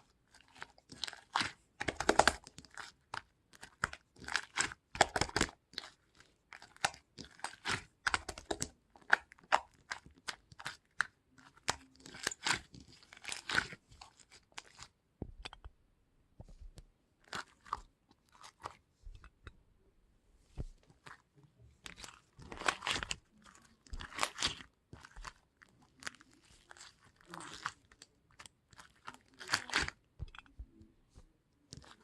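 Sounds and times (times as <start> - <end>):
crunching and crackling: 0.0 - 15.5, 20.7 - 30.8.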